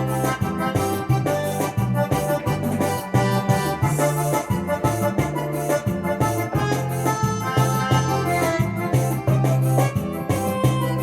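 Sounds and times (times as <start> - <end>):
keyboard melody and chords: 0.0 - 11.0.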